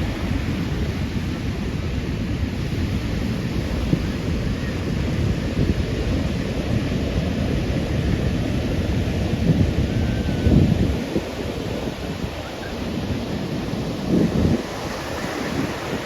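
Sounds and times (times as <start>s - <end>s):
ocean surf: 0.0s - 16.0s
wind buffeting microphone: 0.0s - 16.0s.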